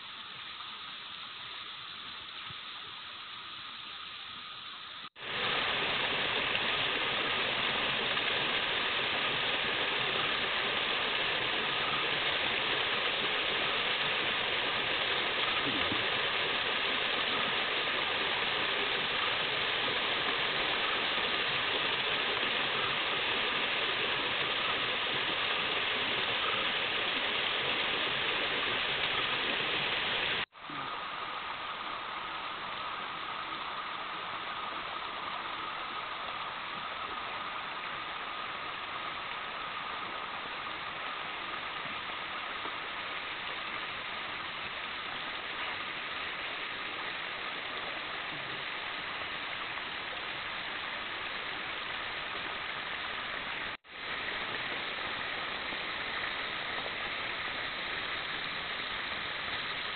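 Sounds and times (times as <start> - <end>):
quiet water flow: 0.0 - 59.9
stream splashing over rocks: 5.1 - 59.9.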